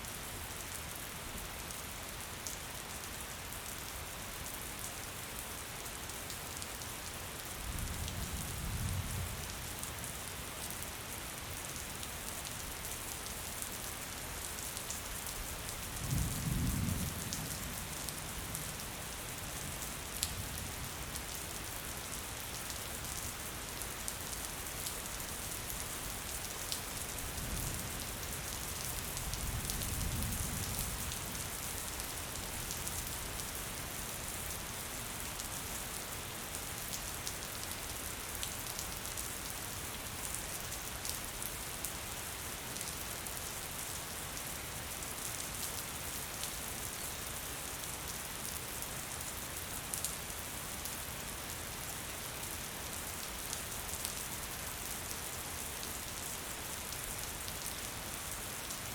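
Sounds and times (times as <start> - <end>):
gentle rain falling: 0.0 - 58.9.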